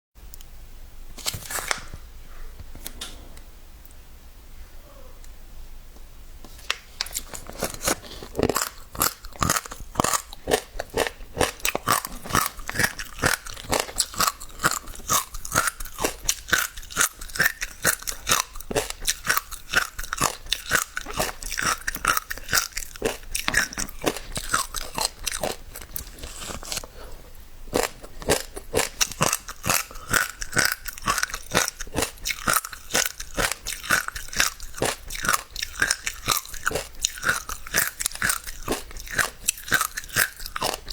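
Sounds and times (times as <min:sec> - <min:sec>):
seeds crunching: 0:07.0 - 0:27.1, 0:27.7 - 0:40.9.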